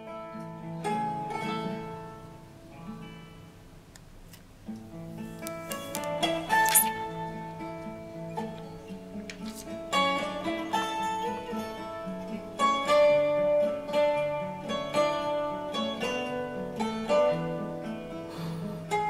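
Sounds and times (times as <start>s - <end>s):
plucked acoustic guitar melody: 0.0s - 19.0s.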